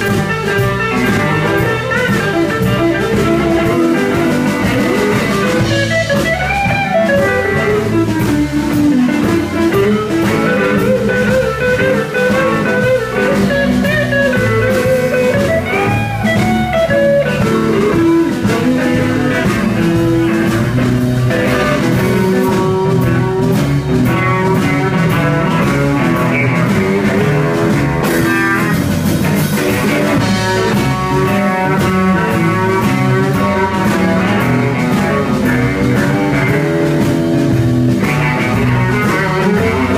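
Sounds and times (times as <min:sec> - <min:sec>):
bass guitar: 0:00.0 - 0:39.9
drum kit: 0:00.0 - 0:39.9
electric guitar lead: 0:00.0 - 0:39.9
rhythm guitar: 0:00.0 - 0:39.9.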